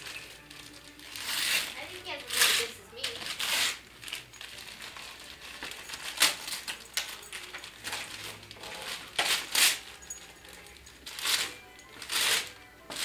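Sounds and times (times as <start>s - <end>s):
wrapping paper ripping and crumpling: 0.0s - 13.0s.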